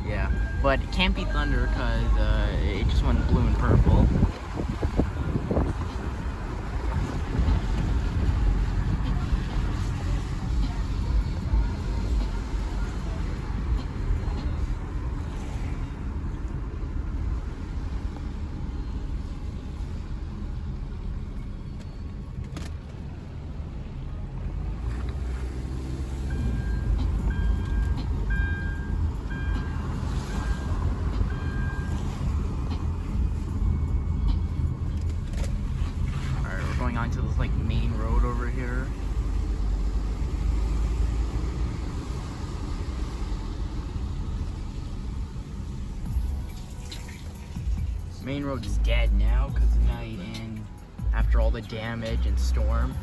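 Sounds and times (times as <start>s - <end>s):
car driving rumble: 0.0s - 53.0s.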